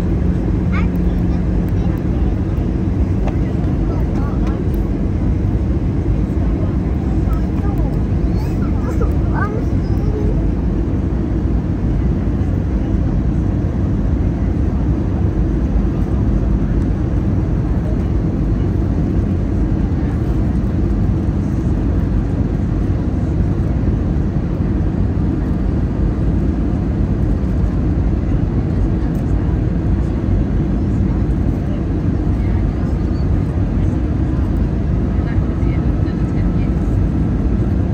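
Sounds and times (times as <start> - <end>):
airliner cabin rumble: 0.0 - 37.9.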